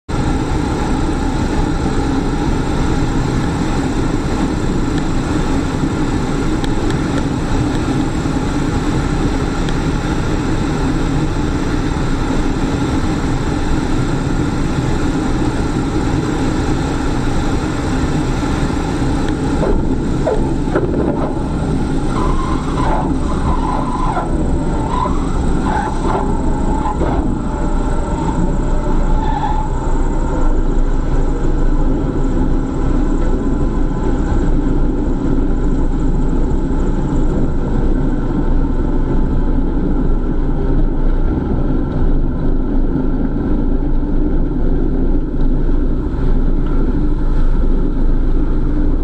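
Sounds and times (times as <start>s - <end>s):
engine drone: 0.1s - 49.0s.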